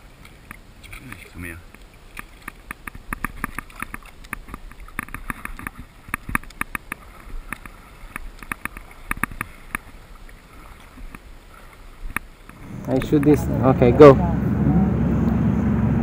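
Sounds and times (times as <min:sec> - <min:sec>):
water splashing and sloshing: 0:00.0 - 0:15.5.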